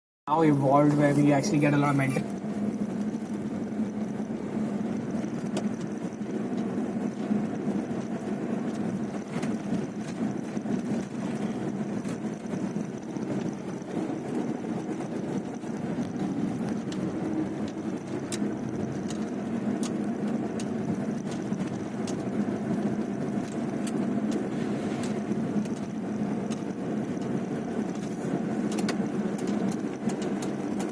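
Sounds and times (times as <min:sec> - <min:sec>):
vehicle engine running: 0:00.3 - 0:30.9.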